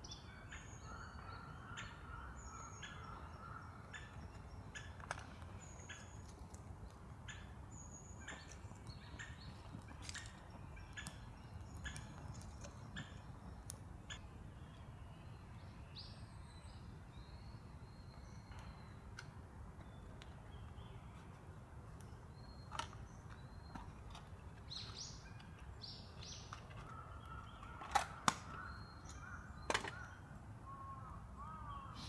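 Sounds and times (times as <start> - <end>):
low steady outdoor hum: 0.0 - 32.0
small birds chirping: 0.0 - 32.0.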